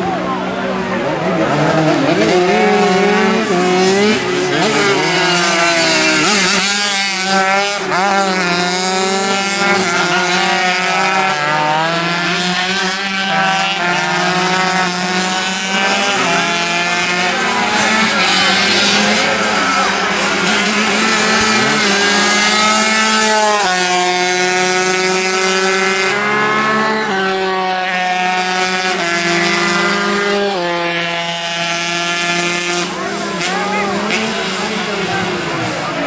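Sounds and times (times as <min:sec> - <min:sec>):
racing motorcycle engines revving: 0:00.0 - 0:36.0.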